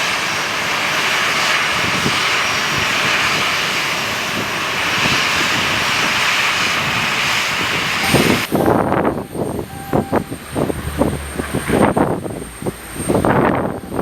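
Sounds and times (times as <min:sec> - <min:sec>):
airliner engines: 0:00.0 - 0:14.0.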